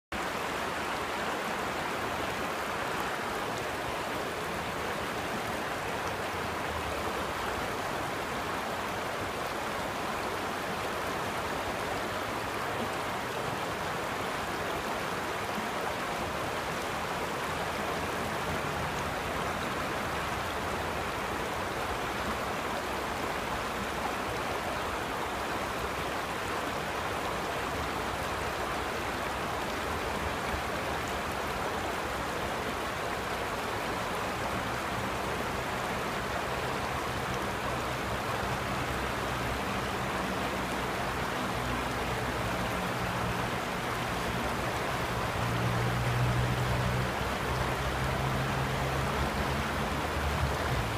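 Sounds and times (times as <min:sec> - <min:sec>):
creek rushing over stones: 0:00.1 - 0:50.9.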